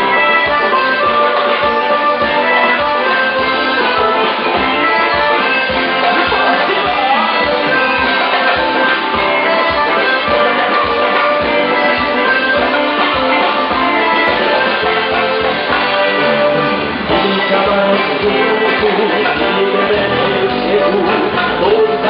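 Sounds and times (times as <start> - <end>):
fast drum beat: 0.0 - 22.0
sustained melodic instruments: 0.0 - 22.0.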